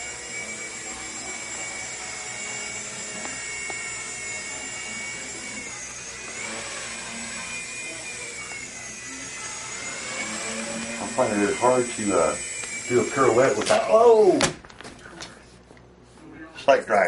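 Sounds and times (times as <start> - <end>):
rc helicopter rotor whine: 0.0 - 14.4.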